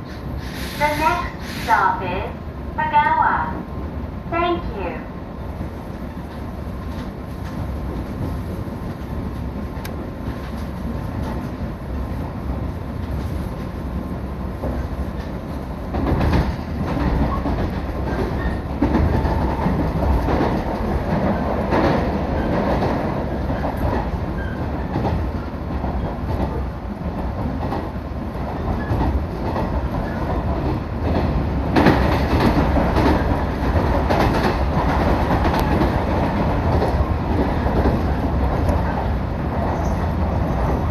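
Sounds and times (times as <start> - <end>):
train rumbling along track: 0.0 - 40.9.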